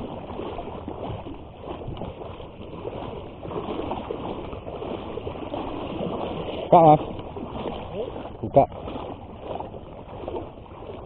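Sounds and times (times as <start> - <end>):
small waves lapping and splashing: 0.0 - 11.0.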